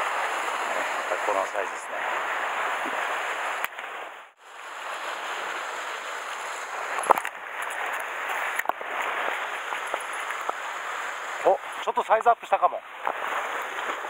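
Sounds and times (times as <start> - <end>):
surf washing on rocks: 0.0 - 14.0.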